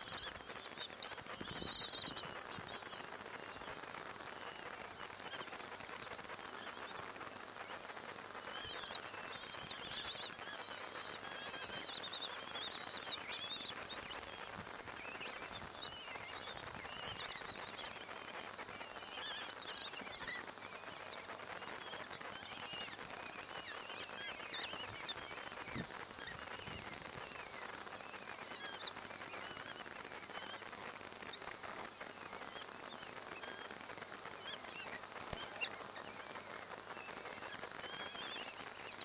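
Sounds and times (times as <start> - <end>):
chicks chirping: 0.0 - 39.0
steady hiss: 0.0 - 39.0.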